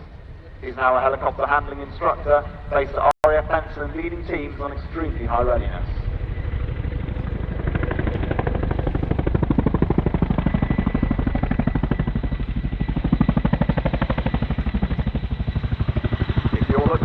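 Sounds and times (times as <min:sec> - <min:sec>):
helicopter engine rumble and whine: 0:00.0 - 0:17.0
helicopter rotor blades beating: 0:00.0 - 0:17.0.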